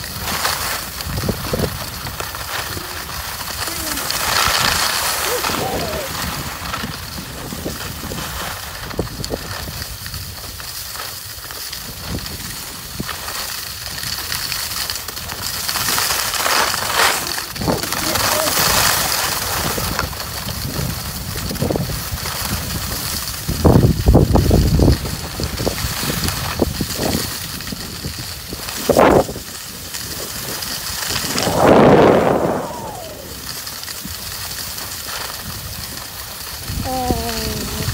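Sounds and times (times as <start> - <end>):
wind buffeting microphone: 0.0 - 10.6, 15.2 - 34.4, 35.4 - 37.9
skis sliding on snow: 0.0 - 37.9.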